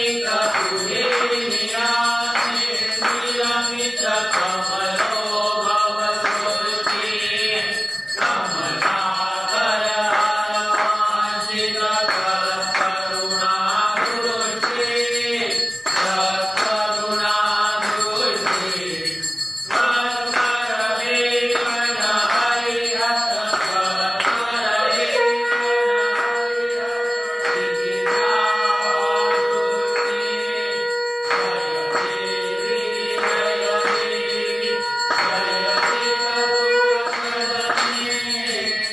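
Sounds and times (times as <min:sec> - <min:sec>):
devotional chant with accompaniment: 0:00.0 - 0:38.9.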